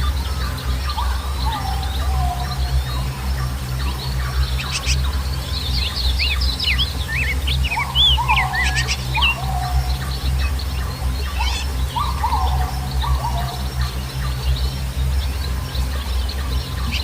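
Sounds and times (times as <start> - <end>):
songbirds chirping: 0.0 - 17.0
steady low rumble: 0.0 - 17.0.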